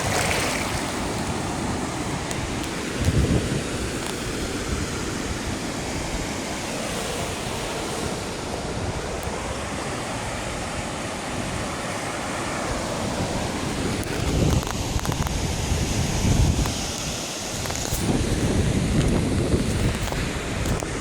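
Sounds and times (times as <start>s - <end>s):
ocean surf on a beach: 0.0s - 21.0s
wind on microphone: 0.0s - 21.0s.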